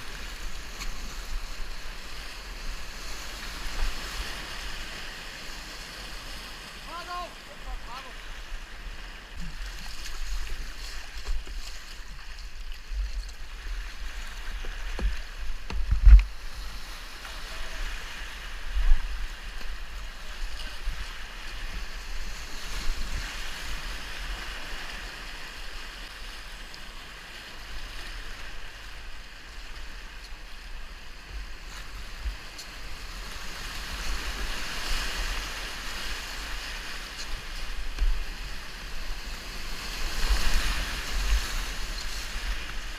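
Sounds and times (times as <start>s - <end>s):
river water rushing: 0.0s - 25.9s, 32.8s - 42.9s.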